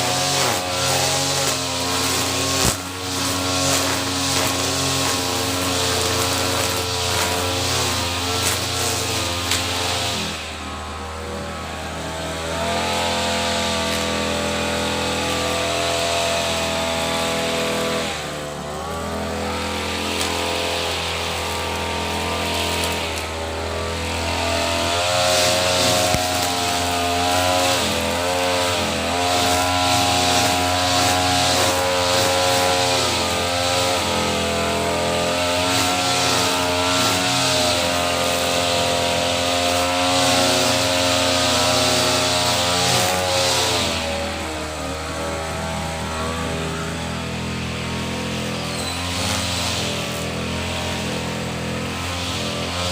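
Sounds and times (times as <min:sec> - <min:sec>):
brush cutter engine revving: 0:00.0 - 0:52.9.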